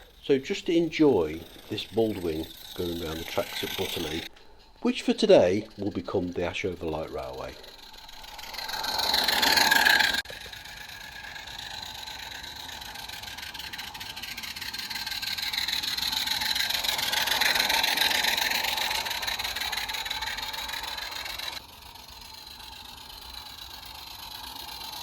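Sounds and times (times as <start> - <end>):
model train whirring: 0.0 - 25.0.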